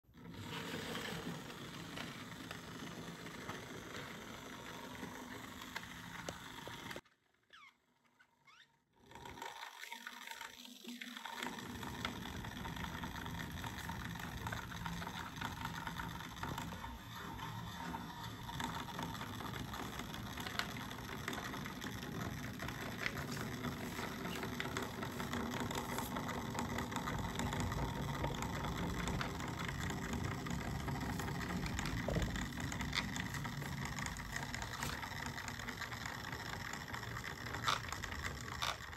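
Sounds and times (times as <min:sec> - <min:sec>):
model train motor hum: 0:00.1 - 0:07.0, 0:08.5 - 0:38.9
wheel and rail noise: 0:00.1 - 0:07.0, 0:11.2 - 0:38.9.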